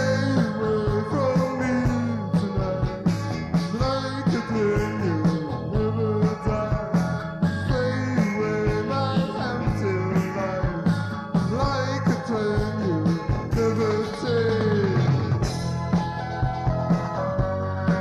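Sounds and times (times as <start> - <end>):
bass and keyboards: 0.0 - 18.0
drum kit beat: 0.0 - 18.0
sliding lead melody: 0.0 - 18.0.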